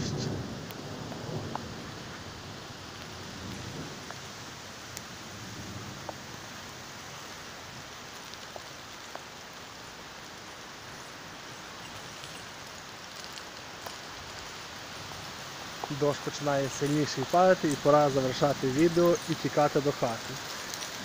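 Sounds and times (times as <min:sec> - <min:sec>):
raindrop ticks: 0:00.0 - 0:21.0
steady rain hiss: 0:00.0 - 0:21.0.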